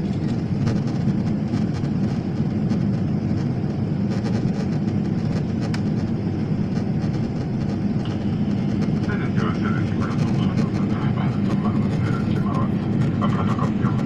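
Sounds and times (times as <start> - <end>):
jet engine cabin rumble: 0.0 - 14.0.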